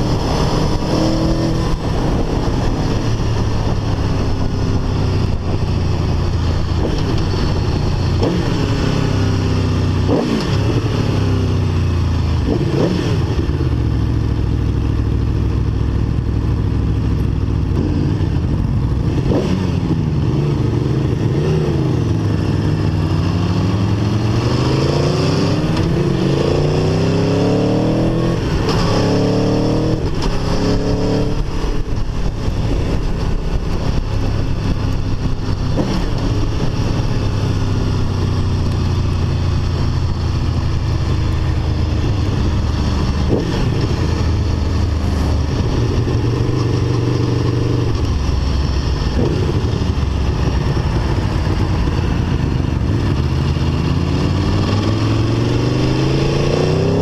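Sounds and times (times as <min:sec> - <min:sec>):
motorcycle engine revving and shifting: 0:00.0 - 0:57.0.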